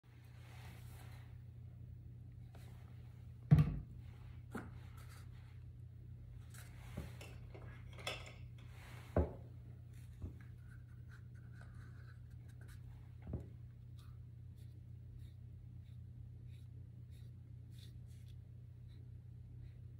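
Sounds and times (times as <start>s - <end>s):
steady low hum: 0.1s - 19.9s.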